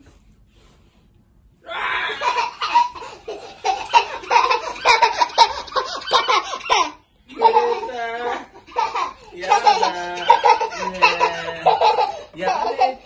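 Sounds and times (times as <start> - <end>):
person laughing hard: 1.7 - 13.0.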